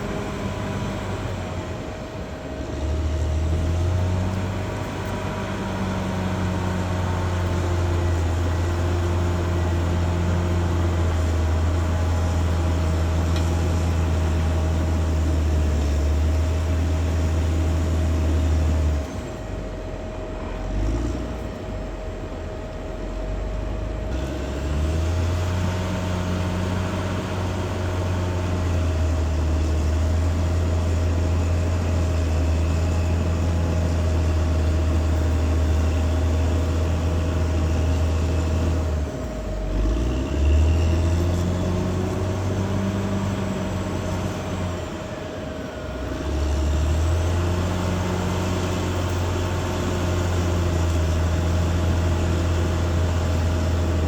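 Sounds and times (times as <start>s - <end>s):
bulldozer diesel engine rumbling: 0.0s - 54.0s
engine whine: 0.0s - 54.0s.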